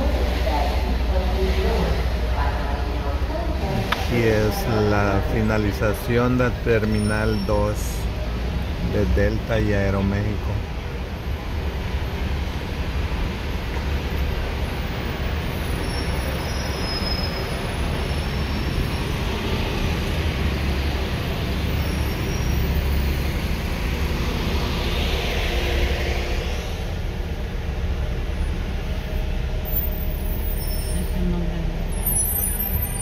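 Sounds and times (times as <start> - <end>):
hiss of passing traffic: 0.0 - 33.0
road traffic rumble: 0.0 - 33.0.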